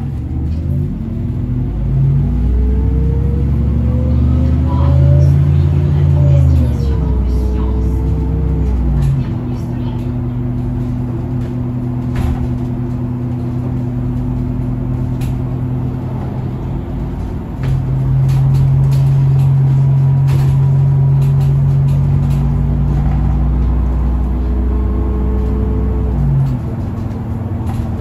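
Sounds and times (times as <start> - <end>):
bus engine hum: 0.0 - 28.0.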